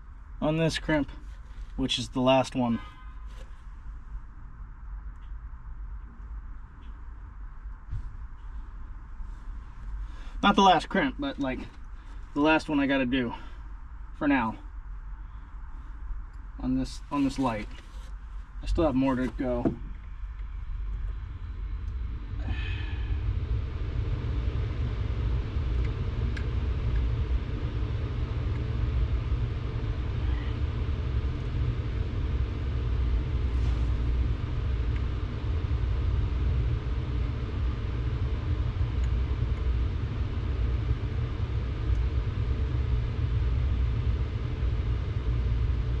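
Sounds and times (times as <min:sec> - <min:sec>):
low rumble: 0:00.0 - 0:46.0.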